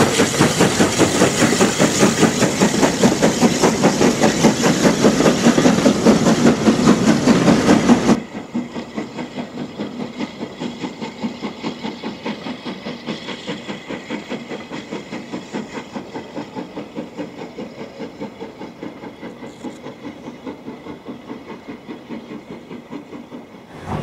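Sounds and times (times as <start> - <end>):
steam locomotive exhaust beating: 0.0 - 24.0.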